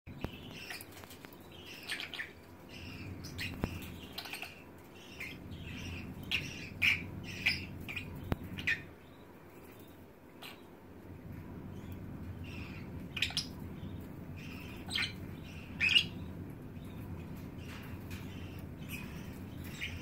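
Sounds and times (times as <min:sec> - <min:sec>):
birds chirping: 0:00.1 - 0:20.0
low steady hum: 0:00.1 - 0:20.0.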